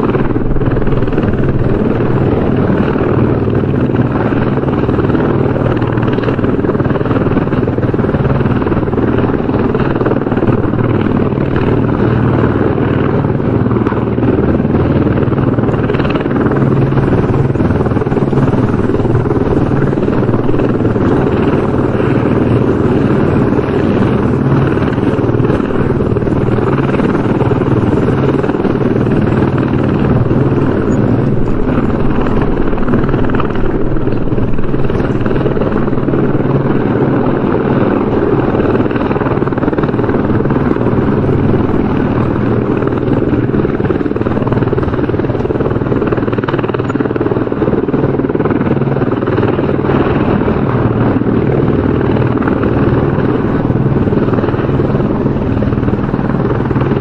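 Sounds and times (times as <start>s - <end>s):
helicopter rotor and engine: 0.0s - 57.0s.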